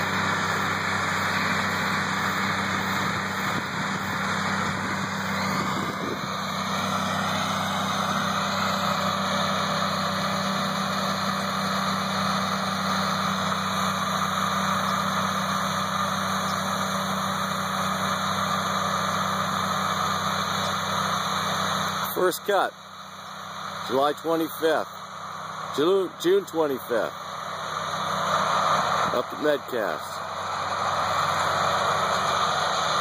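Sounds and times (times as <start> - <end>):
mower cutter droning: 0.0 - 33.0
tractor engine running under load: 0.0 - 33.0.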